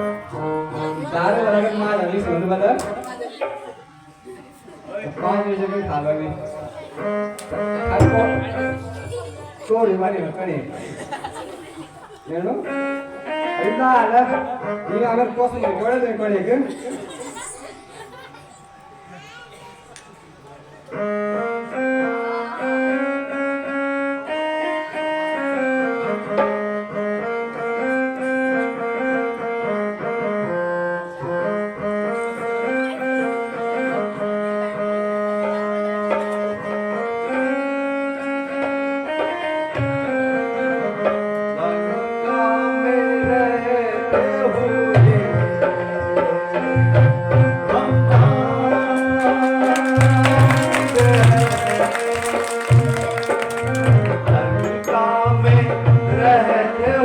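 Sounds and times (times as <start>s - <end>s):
instrumental melody of held notes: 0.0s - 10.6s, 11.5s - 16.3s, 20.8s - 57.0s.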